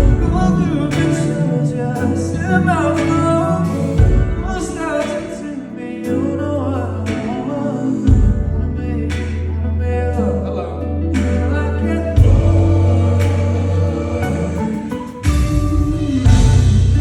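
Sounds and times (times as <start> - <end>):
deep bass notes: 0.0 - 4.9, 8.0 - 17.0
man singing: 0.0 - 17.0
piano chords: 0.0 - 17.0.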